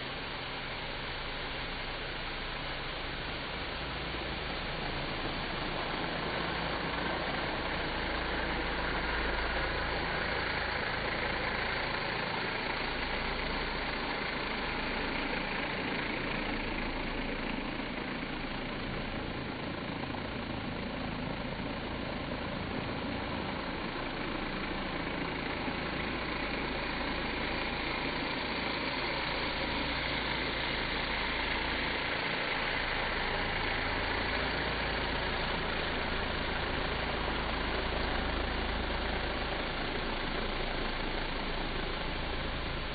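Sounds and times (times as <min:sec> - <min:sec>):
low motor drone: 0:00.0 - 0:42.9.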